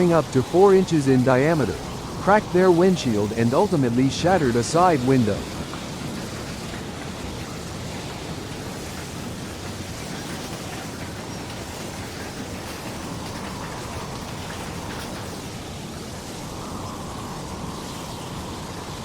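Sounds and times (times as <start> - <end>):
hail and heavy rain on a car: 0.0 - 19.0.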